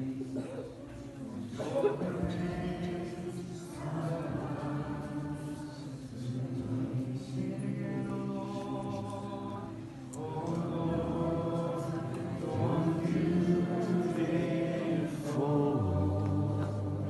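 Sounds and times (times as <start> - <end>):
group singing worship song: 1.5 - 17.0.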